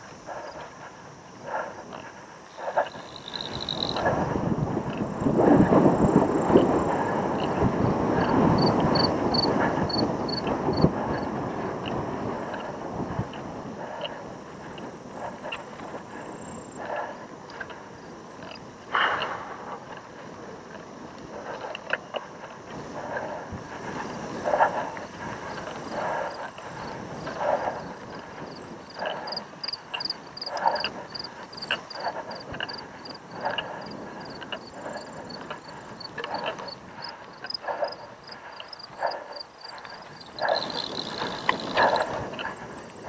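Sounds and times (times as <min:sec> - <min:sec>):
person breathing hard: 0:00.0 - 0:11.7, 0:12.5 - 0:43.0.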